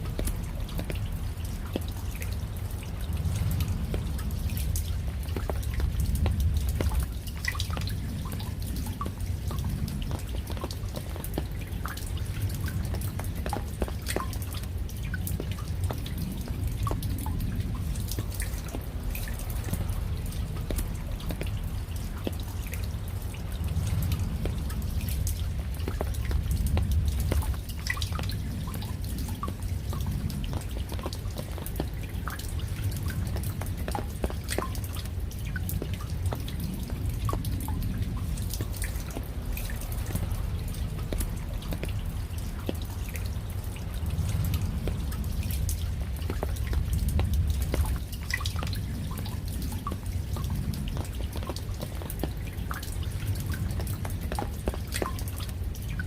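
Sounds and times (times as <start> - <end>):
raindrops dripping: 0.0 - 56.0
steady low rumble: 0.0 - 56.0.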